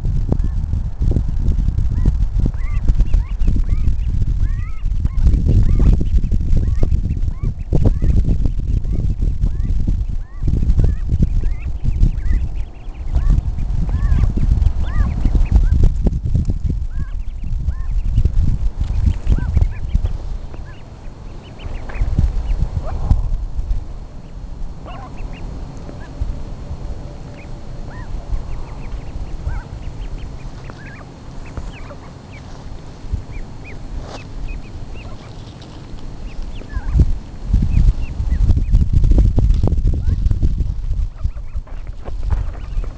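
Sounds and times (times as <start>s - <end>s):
ducklings peeping: 0.0s - 42.9s
low rumble: 0.0s - 42.9s.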